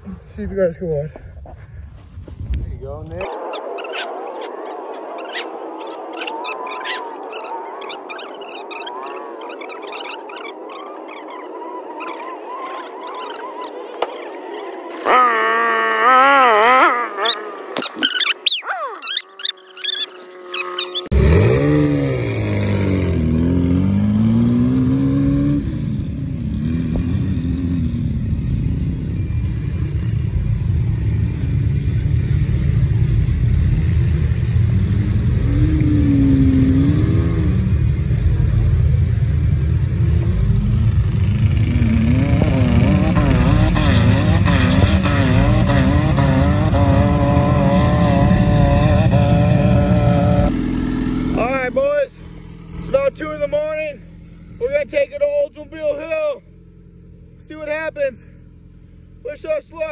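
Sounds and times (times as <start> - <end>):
off-road engines revving: 2.5 - 59.9.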